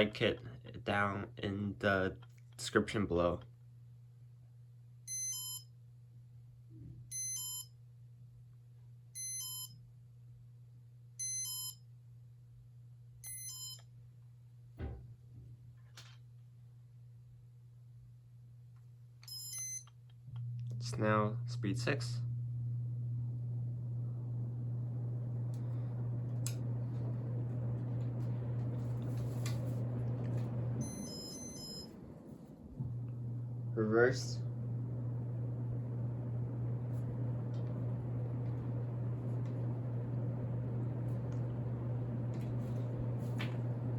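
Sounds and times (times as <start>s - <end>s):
ceiling fan humming: 0.0s - 43.9s.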